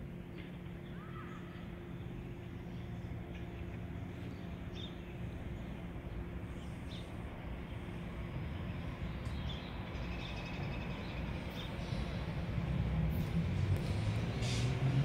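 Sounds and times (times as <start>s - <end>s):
train rumble: 0.0s - 15.0s
birds chirping: 0.2s - 12.4s.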